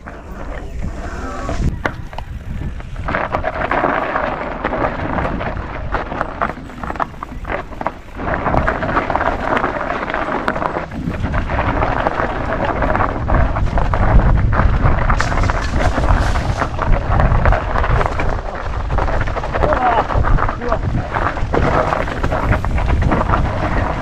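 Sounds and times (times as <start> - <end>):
bike rattling over bumps: 0.0 - 24.0
bike tyres skidding on gravel: 0.0 - 24.0
wind buffeting microphone: 0.0 - 24.0.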